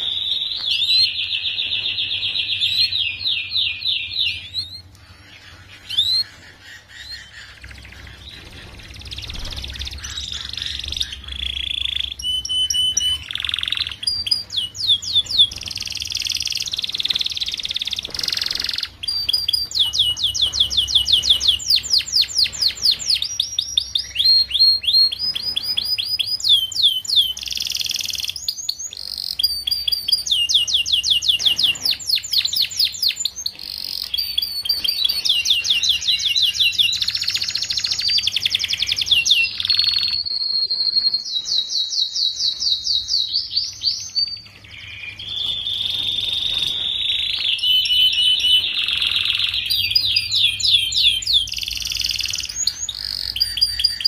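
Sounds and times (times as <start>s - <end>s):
canary trilling: 0.0s - 54.0s.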